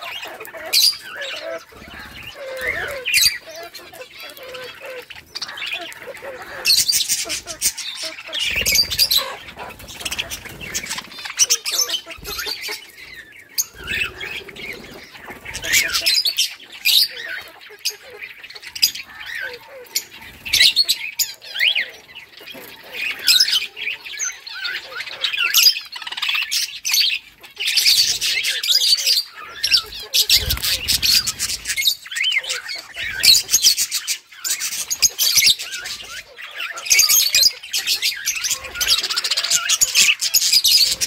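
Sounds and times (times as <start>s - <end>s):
budgerigars chirping and squawking: 0.0s - 41.0s.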